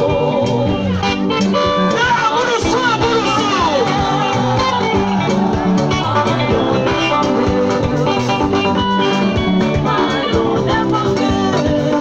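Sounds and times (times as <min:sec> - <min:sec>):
music over loudspeakers: 0:00.0 - 0:12.0
plucked guitar: 0:00.0 - 0:12.0
steady beat: 0:01.6 - 0:11.5.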